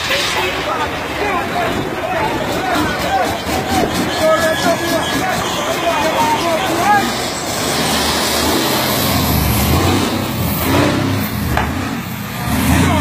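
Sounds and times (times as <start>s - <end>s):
diesel truck engine accelerating: 0.0s - 13.0s.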